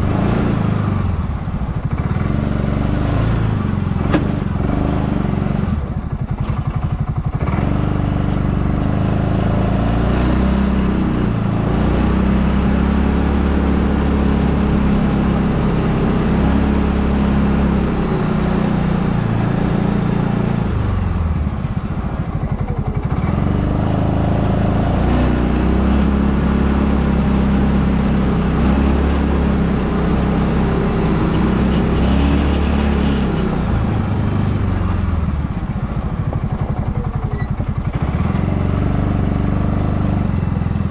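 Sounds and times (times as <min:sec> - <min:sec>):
small engine running under load: 0:00.0 - 0:40.9.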